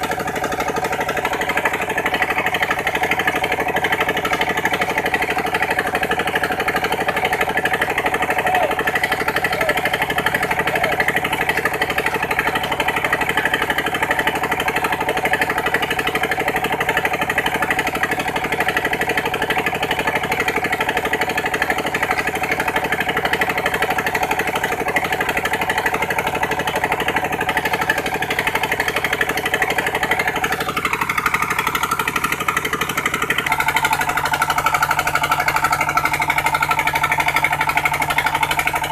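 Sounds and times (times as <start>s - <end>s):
pump engine running: 0.0s - 38.9s.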